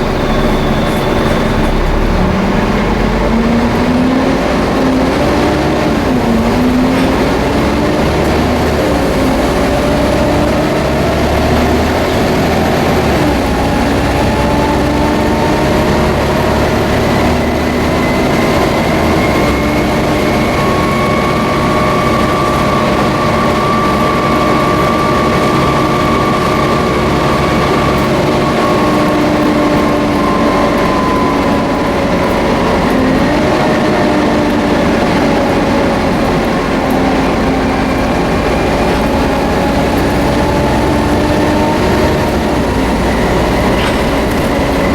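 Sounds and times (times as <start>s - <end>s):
bus engine drone: 0.0s - 44.9s
bus whine: 0.0s - 44.9s
road noise: 0.0s - 44.9s.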